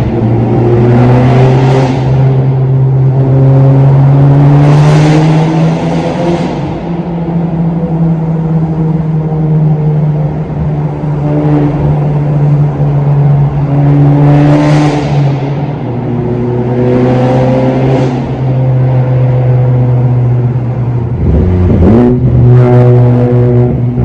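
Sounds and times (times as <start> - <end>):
car engine droning from cabin: 0.0 - 24.0.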